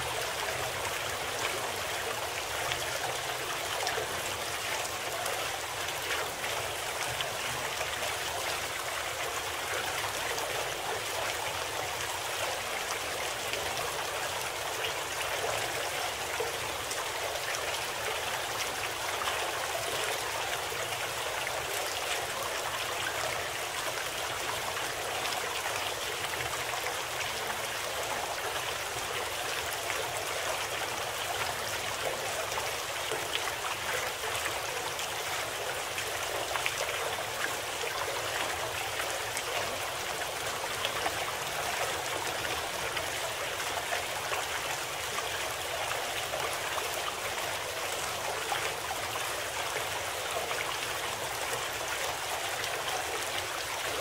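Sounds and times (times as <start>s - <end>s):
babbling stream: 0.0s - 54.0s.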